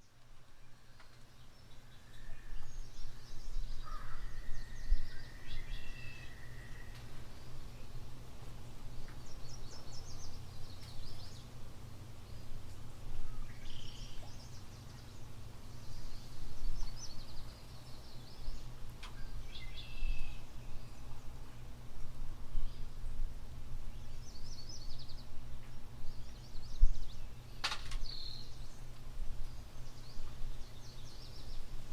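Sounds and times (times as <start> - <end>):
low background rumble: 0.0 - 31.9
small birds chirping: 0.0 - 31.9.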